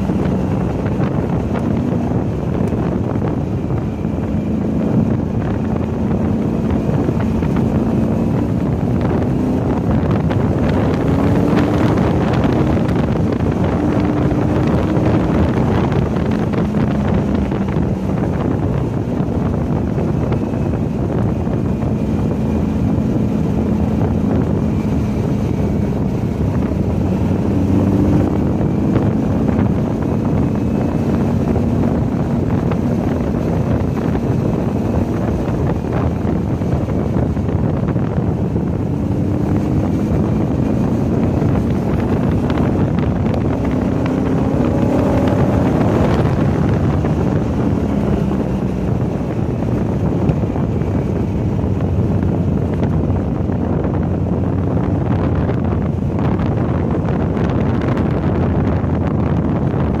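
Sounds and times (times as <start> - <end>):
car engine running hard: 0.0 - 60.0
wind noise on microphone: 0.0 - 60.0.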